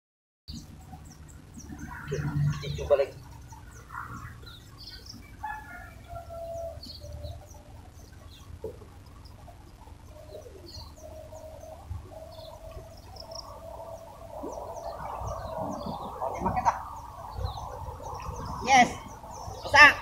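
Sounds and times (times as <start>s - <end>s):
drawn-out low bird calls: 0.5s - 20.0s.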